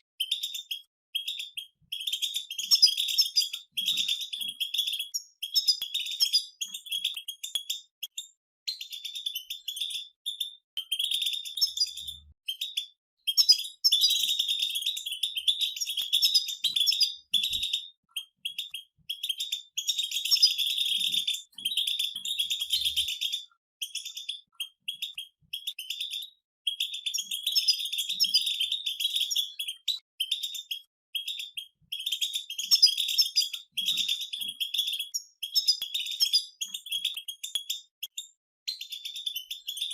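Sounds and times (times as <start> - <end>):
finches twittering: 0.2 - 8.2, 8.8 - 37.3.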